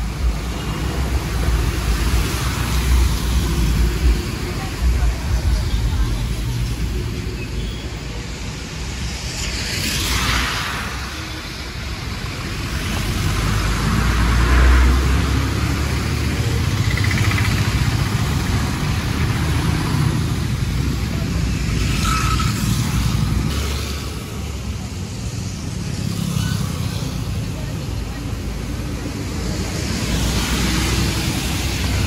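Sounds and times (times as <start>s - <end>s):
heavy vehicle engine rumble: 0.0s - 32.0s
tyres hissing on wet road: 0.0s - 32.0s.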